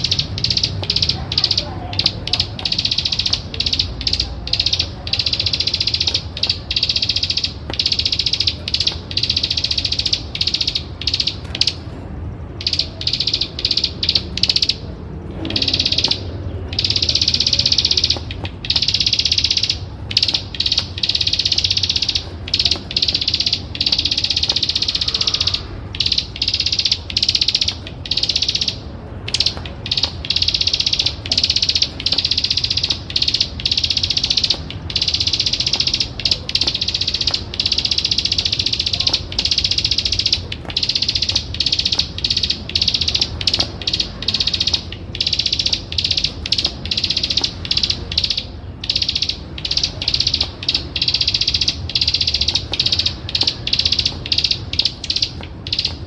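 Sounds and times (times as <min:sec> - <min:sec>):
bird rattling trill: 0:00.0 - 0:11.8, 0:12.5 - 0:14.9, 0:15.5 - 0:56.0.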